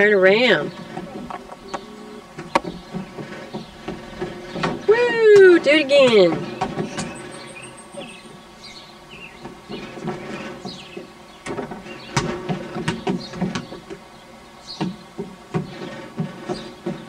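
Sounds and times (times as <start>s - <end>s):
toddler footsteps on boards: 0.0s - 8.4s, 9.2s - 14.0s, 14.7s - 17.0s.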